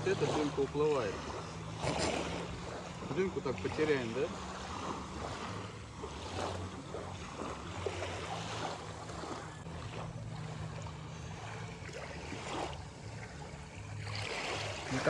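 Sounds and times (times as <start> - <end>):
water washing at shore: 0.0 - 15.0.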